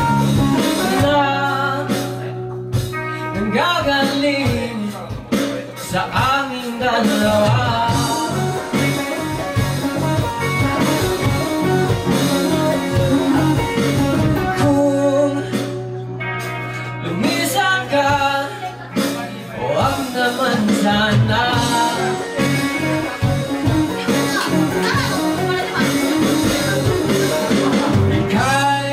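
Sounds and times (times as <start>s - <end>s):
bass guitar: 0.0s - 28.9s
drum kit: 0.0s - 28.9s
electric guitars: 0.0s - 28.9s
person singing: 0.0s - 28.9s.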